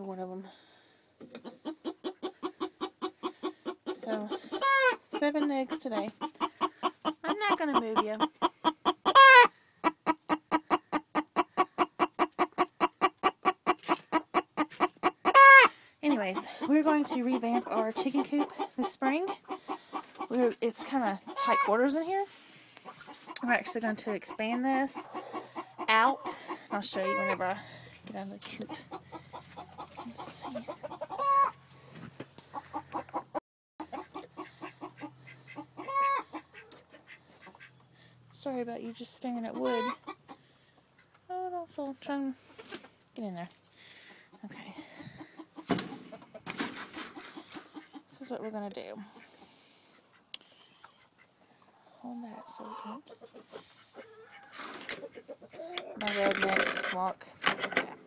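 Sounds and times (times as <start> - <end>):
drawn-out chicken calls: 0.5 - 38.4, 39.0 - 41.5, 43.6 - 57.2
hen clucking rapidly: 1.2 - 31.6, 32.5 - 37.9, 38.9 - 41.3, 44.0 - 51.4, 52.0 - 57.2.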